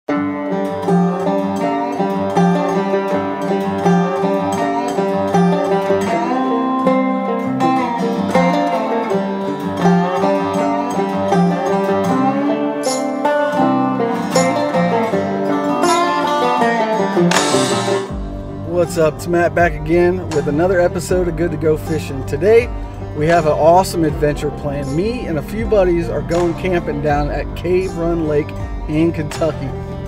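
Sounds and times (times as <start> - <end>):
plucked-string instrumental music: 0.1 - 30.0.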